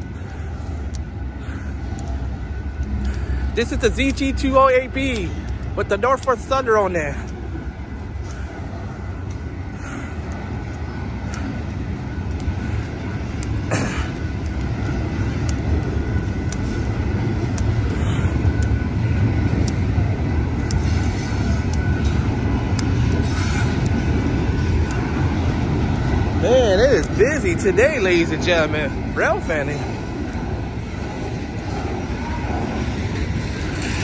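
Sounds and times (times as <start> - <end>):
freight train wheels rumbling on rail: 0.0 - 34.0
sharp clicks: 0.0 - 34.0.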